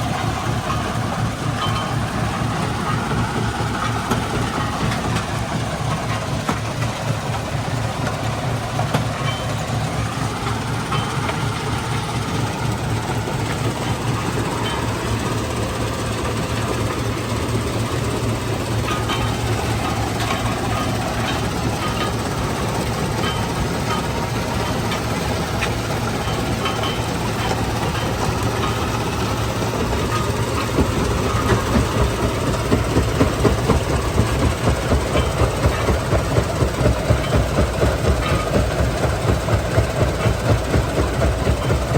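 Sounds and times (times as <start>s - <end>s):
rhythmic machine pulsing: 0.0s - 41.9s
stone crushing machinery rumbling: 0.0s - 41.9s.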